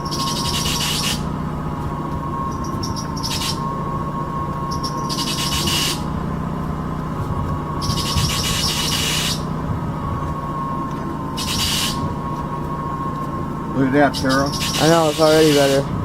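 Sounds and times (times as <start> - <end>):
high squeal: 0.0 - 1.4, 2.2 - 6.2, 7.6 - 15.9
car engine running: 0.0 - 16.0
power steering pump whining: 0.0 - 16.0.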